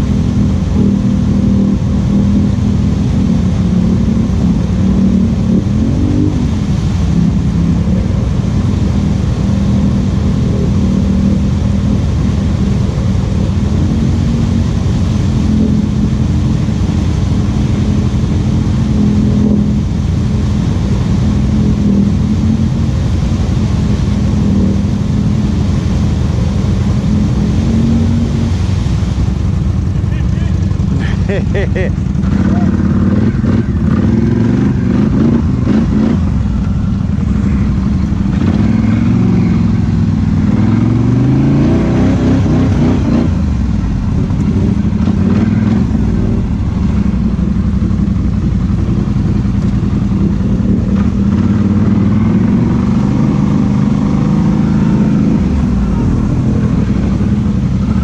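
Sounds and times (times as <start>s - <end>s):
atv engine running at low revs: 0.0s - 58.0s.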